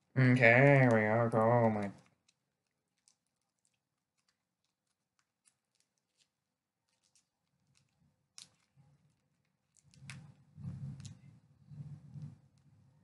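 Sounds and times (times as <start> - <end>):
candy packet crinkling: 0.4 - 13.0.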